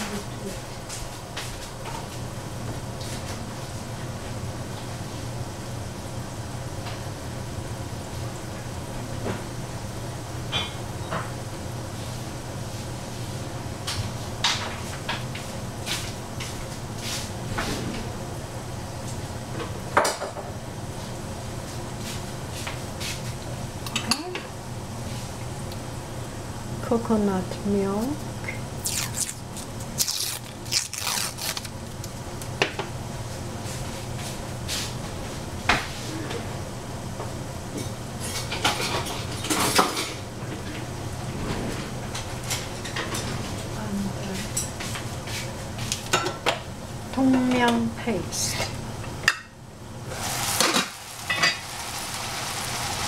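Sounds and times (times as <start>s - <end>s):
steady low hum: 0.0s - 50.2s.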